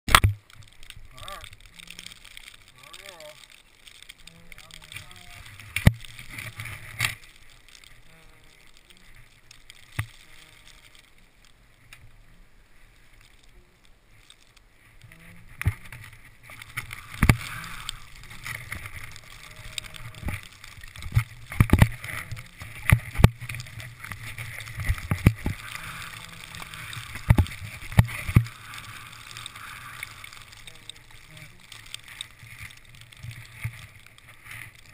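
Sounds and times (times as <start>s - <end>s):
skis sliding through deep snow: 0.5s - 34.9s.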